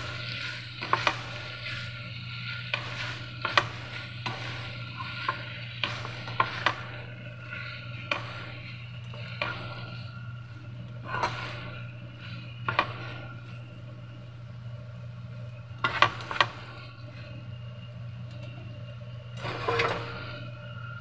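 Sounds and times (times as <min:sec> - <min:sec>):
food cooking in frying pan: 0:00.0 - 0:17.3.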